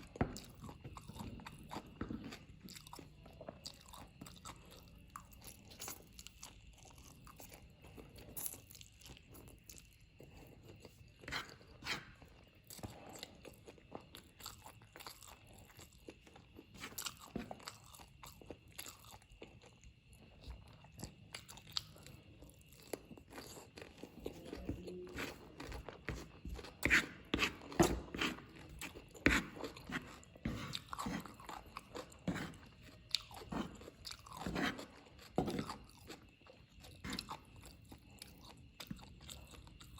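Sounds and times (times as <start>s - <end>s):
person chewing noodles: 0.0s - 39.9s.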